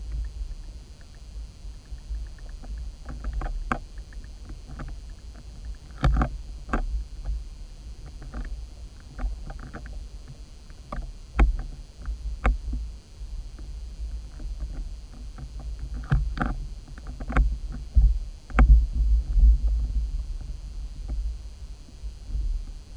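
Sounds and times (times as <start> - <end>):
sharp clicks and knocks: 0.0 - 7.4, 8.0 - 12.8, 13.5 - 21.3.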